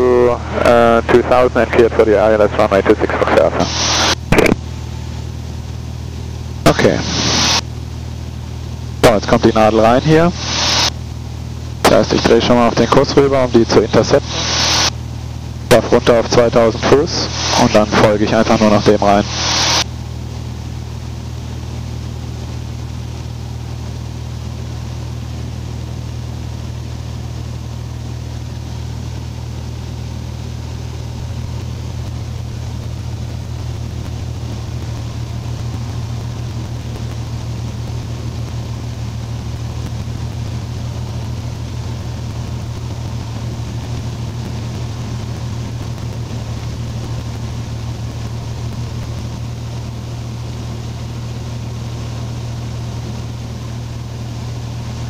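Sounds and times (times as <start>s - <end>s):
propeller engine droning: 0.0s - 55.0s.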